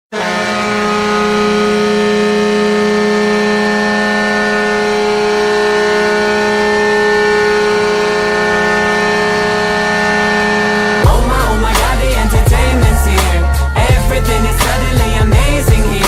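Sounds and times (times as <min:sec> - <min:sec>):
arena air horn blast: 0:00.1 - 0:16.0.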